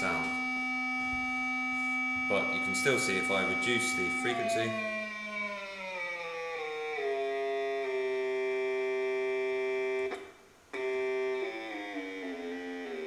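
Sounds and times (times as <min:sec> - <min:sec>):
buzzy electronic tone stepping down: 0:00.0 - 0:10.2, 0:10.8 - 0:13.0.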